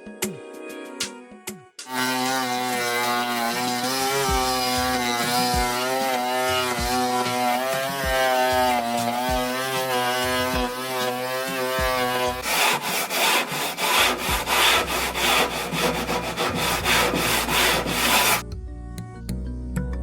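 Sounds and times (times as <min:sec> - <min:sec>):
soft background music: 0:00.0 - 0:12.4, 0:14.2 - 0:20.0
sanding grit scraping hull: 0:01.9 - 0:18.4.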